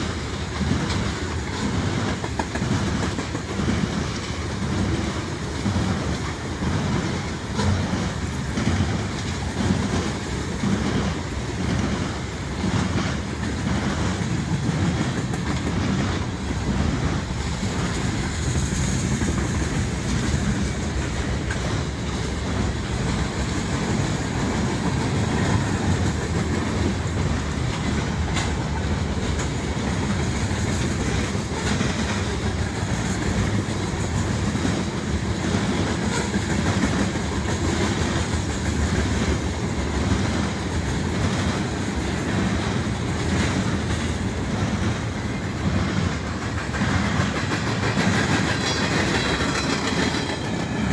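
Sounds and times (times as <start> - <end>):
train wheels rumbling on rail: 0.0 - 50.9
wheels clacking over rail joints: 0.0 - 50.9.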